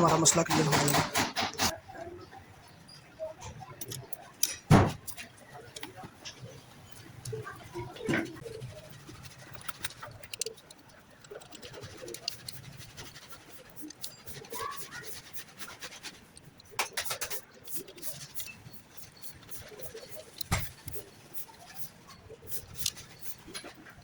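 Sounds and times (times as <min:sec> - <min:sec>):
clicks and knocks of hand tools: 0:00.0 - 0:01.7, 0:03.4 - 0:06.5, 0:09.2 - 0:24.0.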